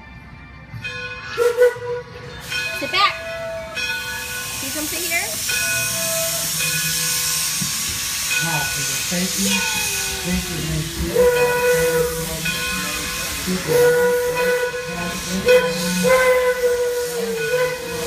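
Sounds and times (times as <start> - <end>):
steam whistle blasts: 1.3 - 8.9, 9.5 - 18.0
steam hissing: 2.3 - 18.0.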